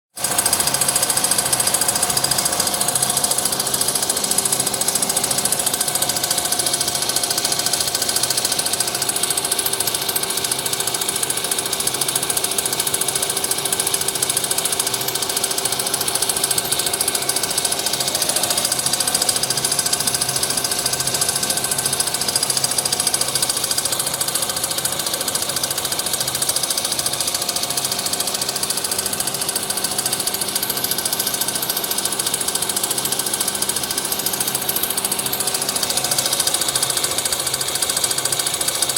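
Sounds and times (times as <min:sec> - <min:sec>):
factory machinery running: 0:00.2 - 0:38.9.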